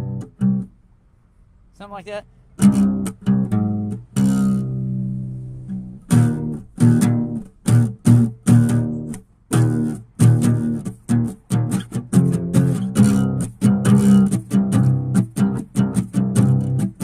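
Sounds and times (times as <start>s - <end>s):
plucked guitar with bass: 0.0s - 0.8s, 2.6s - 17.0s.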